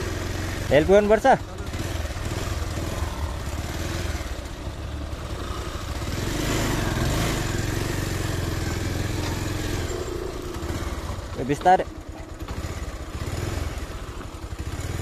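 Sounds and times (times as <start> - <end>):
motorcycle engine running: 0.0 - 15.0
scooter engine straining uphill: 0.0 - 15.0.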